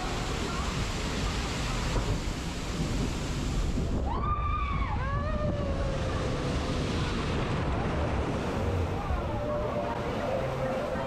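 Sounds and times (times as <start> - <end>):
boat splashing through water: 0.0 - 4.1, 4.7 - 11.0
wind on the microphone: 0.0 - 10.0
rushing water: 0.0 - 11.0.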